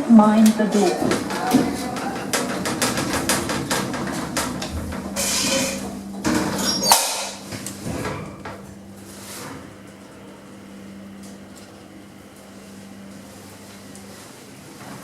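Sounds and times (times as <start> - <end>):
lift doors sliding shut: 0.0 - 14.4
lift car low hum: 0.0 - 15.0
lift door clunk: 0.5 - 13.4.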